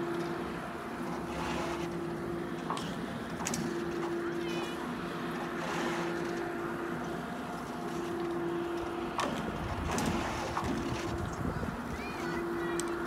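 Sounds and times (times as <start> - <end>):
chairlift drive machinery hum: 0.0 - 13.0.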